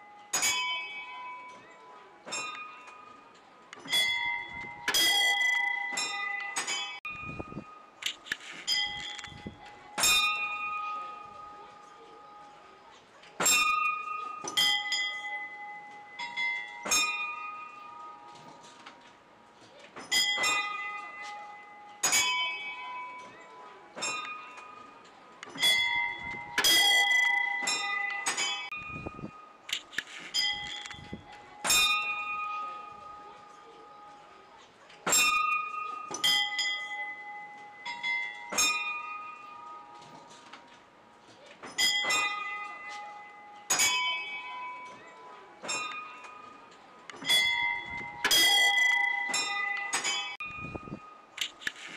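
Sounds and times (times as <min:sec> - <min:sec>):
metal bells ringing: 0:00.0 - 0:01.6, 0:03.8 - 0:07.9, 0:08.6 - 0:12.3, 0:13.4 - 0:18.6, 0:20.0 - 0:29.6, 0:30.3 - 0:34.1, 0:35.1 - 0:40.3, 0:41.7 - 0:51.3.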